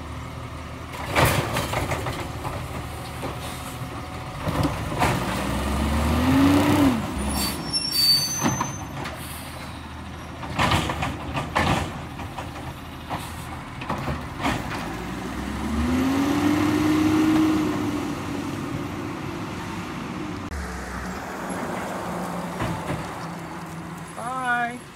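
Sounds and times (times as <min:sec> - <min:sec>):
garbage truck diesel engine: 0:00.0 - 0:24.9.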